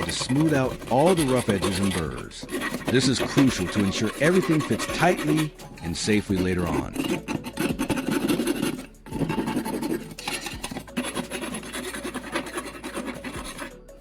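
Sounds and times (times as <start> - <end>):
metal file rasping on iron: 0.0 - 14.0.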